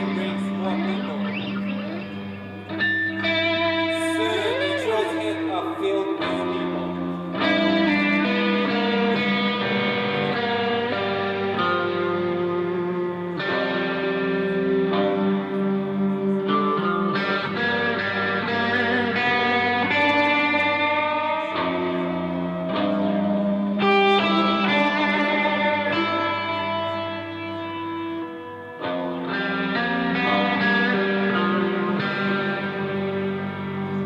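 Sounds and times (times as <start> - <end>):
plucked string melody: 0.0 - 34.0.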